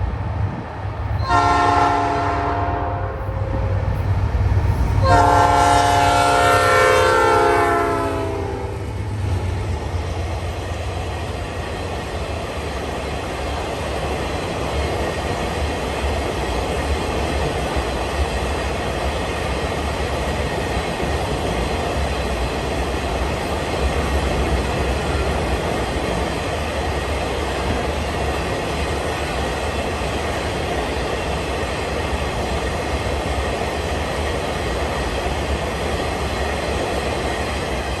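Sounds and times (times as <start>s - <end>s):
freight train rumbling past: 0.0s - 38.0s.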